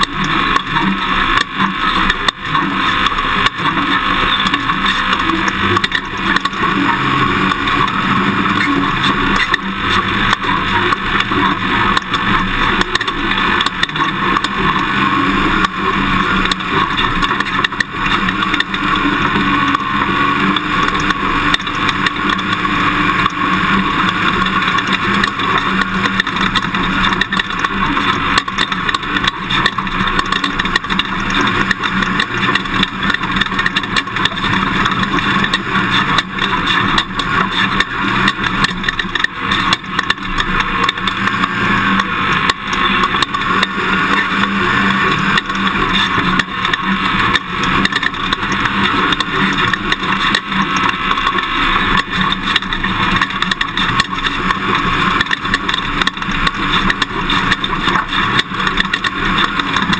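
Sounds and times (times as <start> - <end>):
knocks and rattles over rough ground: 0.0 - 59.9
pickup truck engine driving: 0.0 - 59.9.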